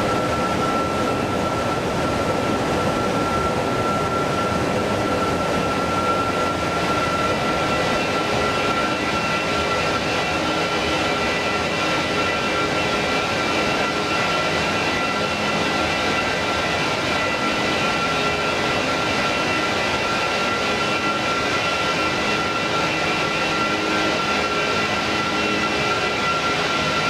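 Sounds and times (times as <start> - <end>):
high engine whine: 0.0 - 27.0
jet engines running: 0.0 - 27.0.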